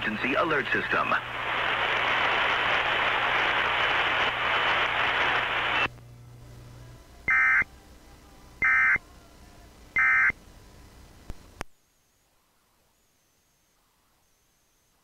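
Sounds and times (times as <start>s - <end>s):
steady radio hiss: 0.0s - 15.0s.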